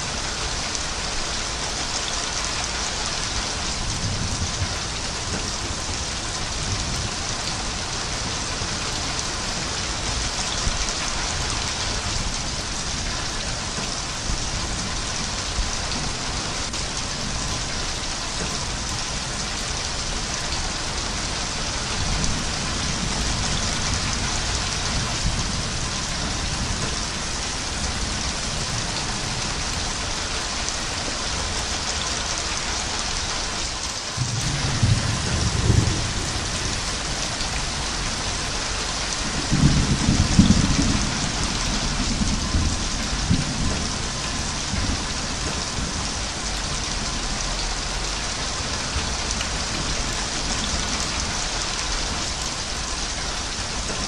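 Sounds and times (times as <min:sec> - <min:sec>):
heavy rain hiss: 0:00.0 - 0:54.0
thunder rumbling: 0:03.4 - 0:30.3, 0:34.2 - 0:52.8.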